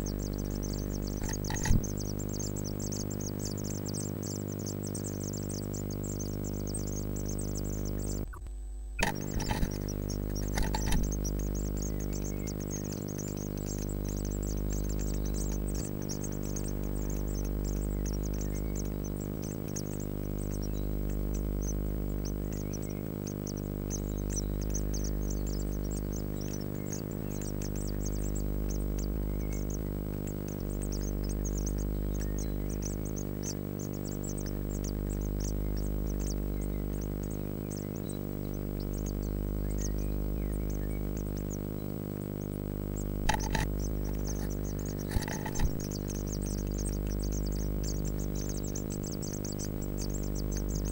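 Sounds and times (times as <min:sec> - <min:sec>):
ambient synthesizer drone: 0:00.0 - 0:08.4, 0:09.0 - 0:50.9
nestlings chirping: 0:00.0 - 0:08.4, 0:09.0 - 0:50.9.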